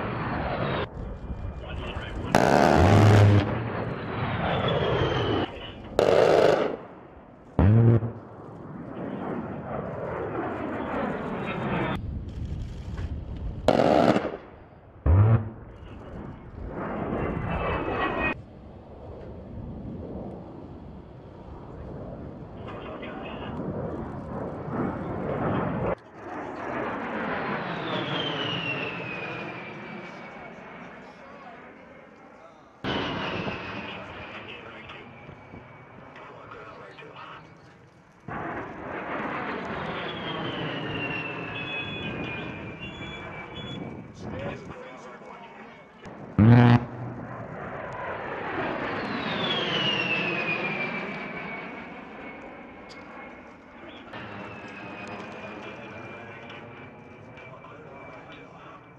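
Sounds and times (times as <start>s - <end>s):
jet flying by: 0.0s - 12.0s, 13.6s - 32.0s, 32.8s - 58.9s.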